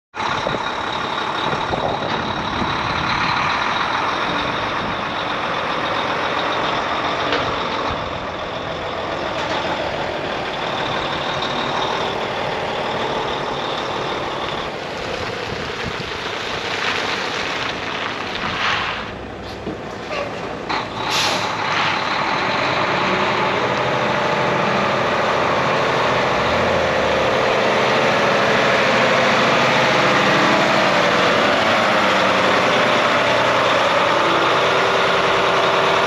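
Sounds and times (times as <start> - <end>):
heavy diesel truck running: 0.1 - 36.0.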